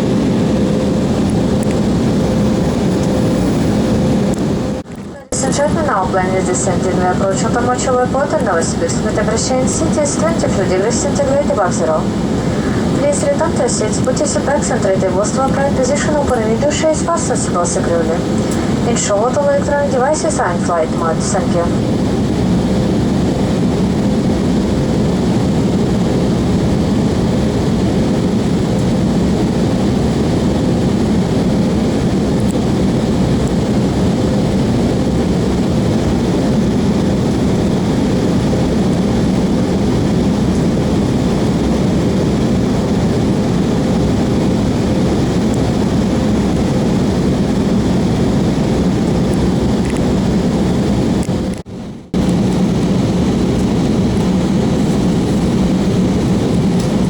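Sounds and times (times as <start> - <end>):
airliner engines and airflow roar: 0.0 - 57.0
faint constant hum: 0.1 - 50.4.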